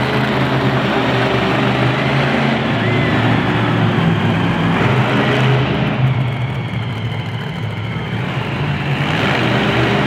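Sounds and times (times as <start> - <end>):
monster truck engines running: 0.0 - 10.0.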